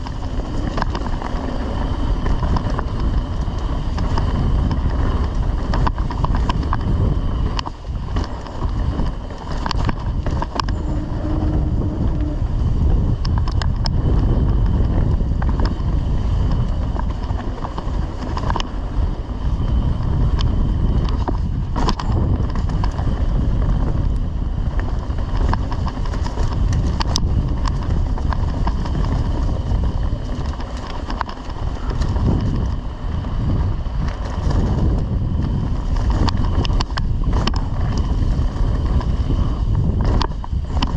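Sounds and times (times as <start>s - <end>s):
bike clicks and rattles: 0.0s - 40.9s
wind buffeting microphone: 0.0s - 40.9s.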